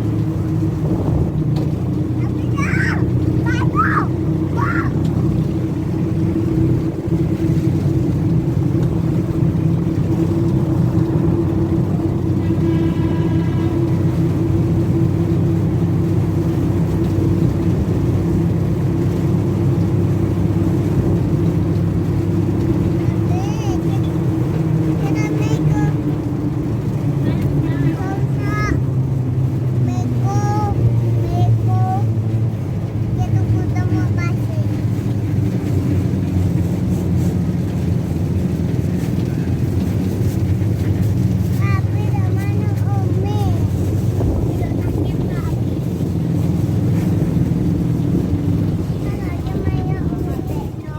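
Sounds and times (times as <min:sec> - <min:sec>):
engine droning steadily: 0:00.0 - 0:50.9.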